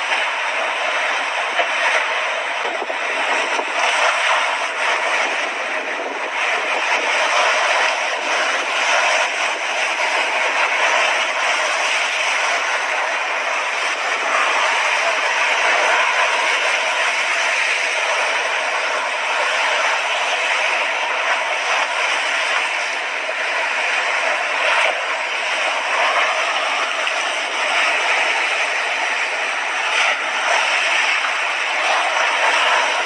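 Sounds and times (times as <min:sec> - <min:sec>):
waves washing onto shore: 0:00.0 - 0:33.0.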